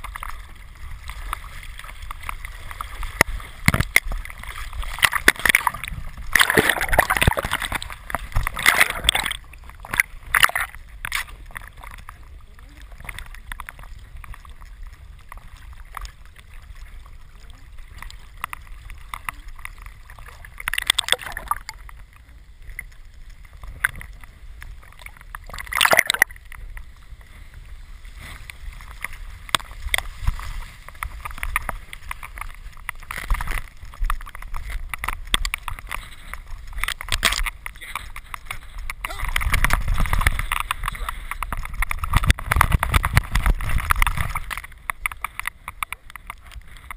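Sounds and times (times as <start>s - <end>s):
water sloshing and gurgling: 0.0s - 46.9s.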